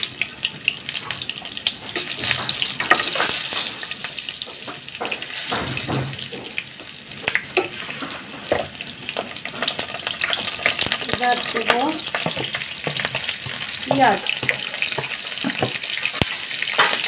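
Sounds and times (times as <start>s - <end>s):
oil sizzling and crackling in a pan: 0.0s - 17.0s.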